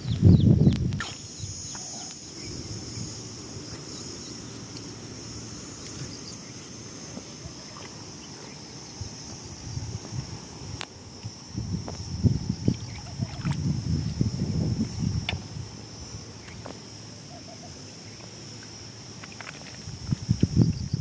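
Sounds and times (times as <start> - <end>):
insects droning: 0.0 - 21.0
low rumble of wind: 0.0 - 21.0.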